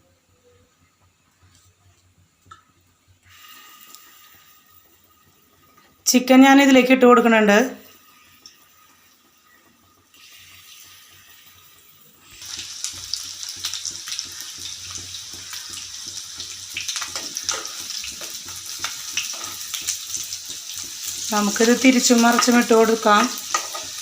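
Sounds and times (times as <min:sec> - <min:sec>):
chicken sizzling in hot oil: 0:02.1 - 0:24.0.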